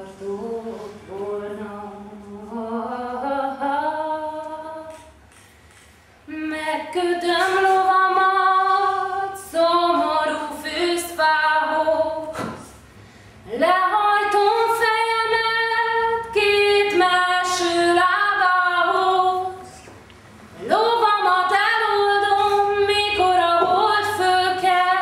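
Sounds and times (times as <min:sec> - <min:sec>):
woman singing unaccompanied: 0:00.0 - 0:05.1, 0:06.3 - 0:12.6, 0:13.5 - 0:19.8, 0:20.6 - 0:25.0.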